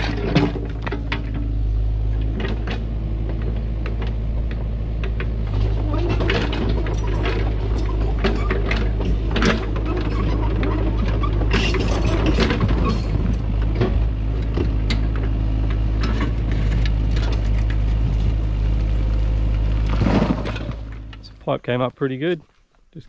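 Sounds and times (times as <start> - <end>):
excavator diesel engine running: 0.0 - 21.8
tracks and rocks clattering: 0.0 - 23.0.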